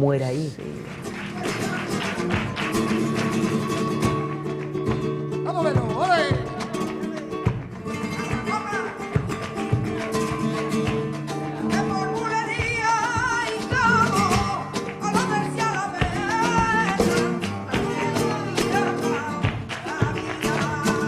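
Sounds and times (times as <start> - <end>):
person singing flamenco: 0.6 - 21.0.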